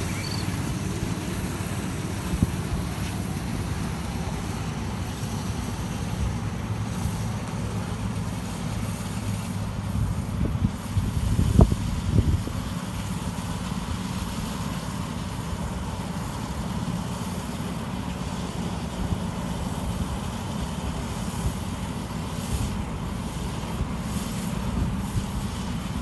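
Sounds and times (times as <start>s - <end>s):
miniature train rumbling past: 0.0s - 26.0s.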